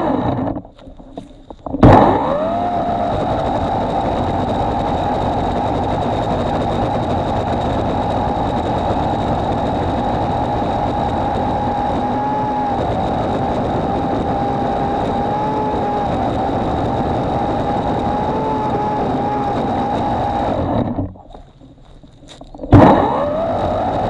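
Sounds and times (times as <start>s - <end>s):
electric chainsaw whining: 0.0s - 0.6s, 1.8s - 21.1s, 22.8s - 24.0s.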